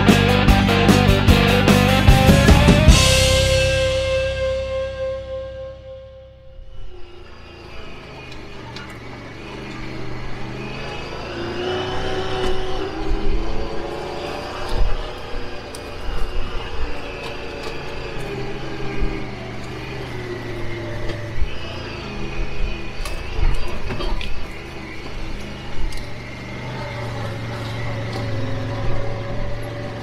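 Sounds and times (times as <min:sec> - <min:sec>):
utility vehicle engine driving: 0:00.0 - 0:30.0.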